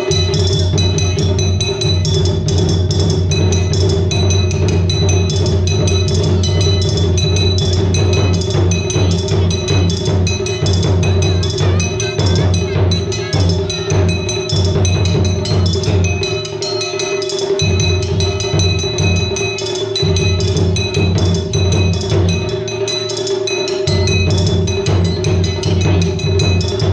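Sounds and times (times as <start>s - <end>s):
ringing metallic strikes: 0.0s - 26.9s
taiko drums beating: 0.0s - 26.9s.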